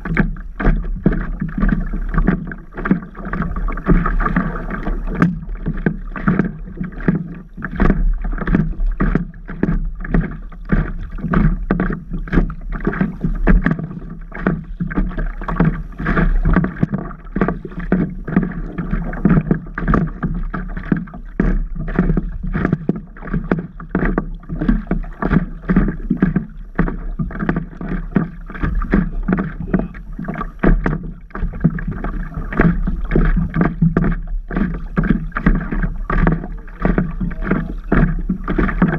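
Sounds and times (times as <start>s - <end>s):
water splashing against paddleboard: 0.0s - 38.9s.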